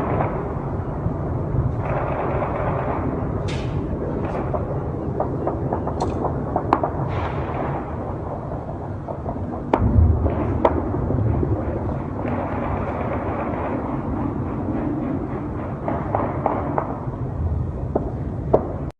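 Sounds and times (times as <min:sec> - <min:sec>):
heavy low boom: 0:00.0 - 0:18.9
low rumble of city noise: 0:00.0 - 0:18.9
sharp bangs: 0:01.6 - 0:17.2.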